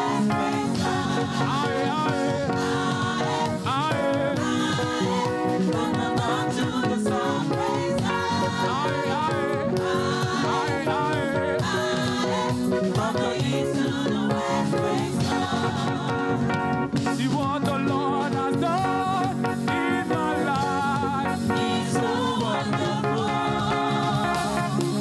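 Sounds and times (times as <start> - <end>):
bass and keyboard backing: 0.0 - 25.0
choir singing gospel: 0.0 - 25.0.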